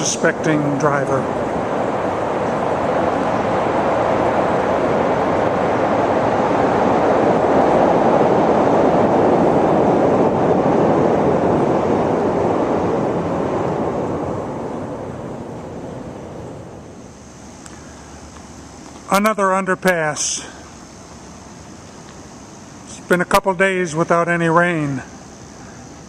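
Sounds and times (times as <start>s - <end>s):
road traffic rushing: 0.0s - 26.0s.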